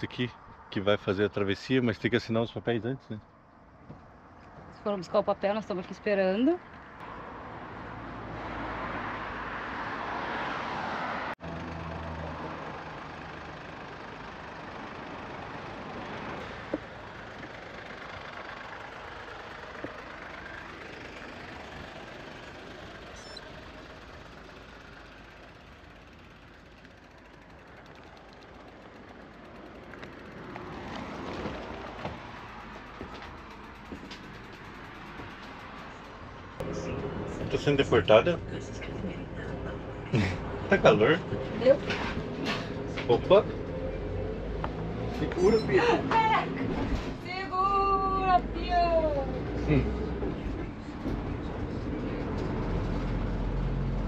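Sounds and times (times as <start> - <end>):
vehicles passing on road: 0.0 - 54.0.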